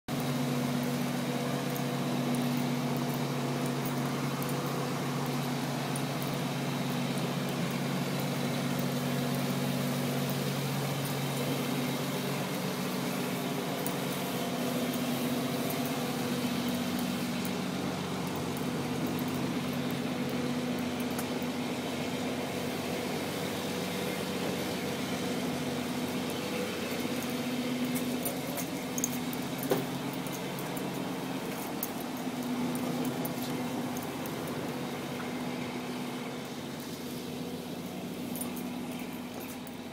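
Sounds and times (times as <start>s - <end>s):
diesel engine humming: 0.1s - 39.9s.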